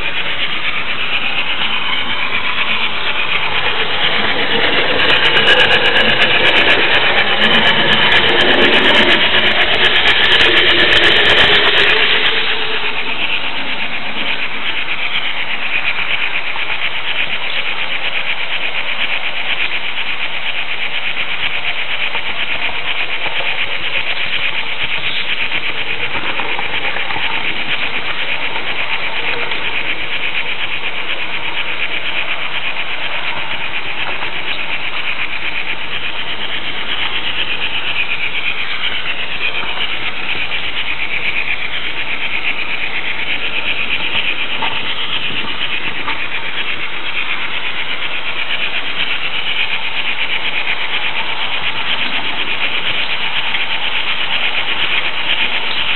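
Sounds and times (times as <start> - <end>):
model train wheels rattling on track: 0.0 - 55.9.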